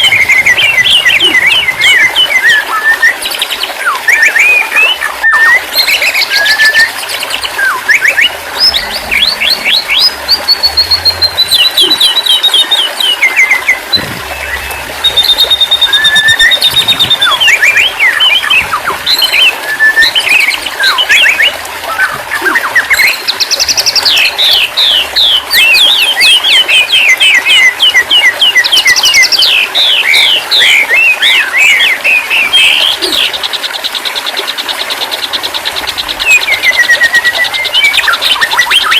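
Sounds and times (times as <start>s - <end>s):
bird singing whistles and trills: 0.0s - 33.5s, 36.0s - 38.9s.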